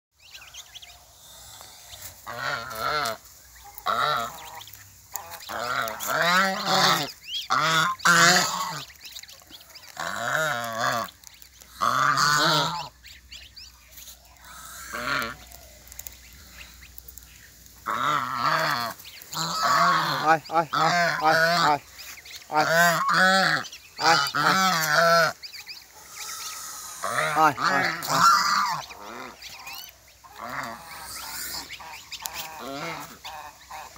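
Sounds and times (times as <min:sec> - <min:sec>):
geese honking: 0:00.4 - 0:33.9.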